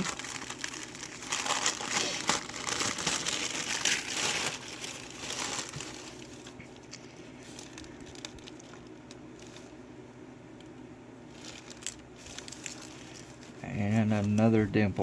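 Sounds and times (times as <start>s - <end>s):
packaging crinkling: 0.0s - 9.8s, 11.2s - 14.7s.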